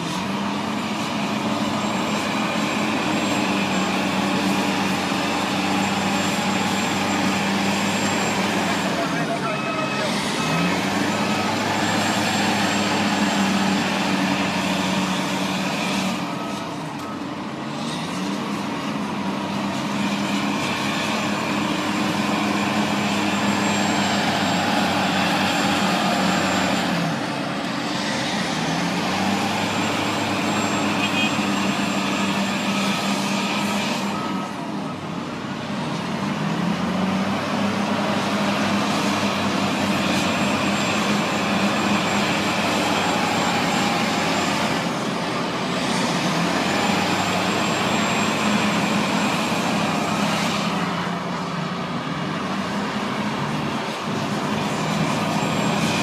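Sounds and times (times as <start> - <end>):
heavy diesel engines under load: 0.0 - 56.0.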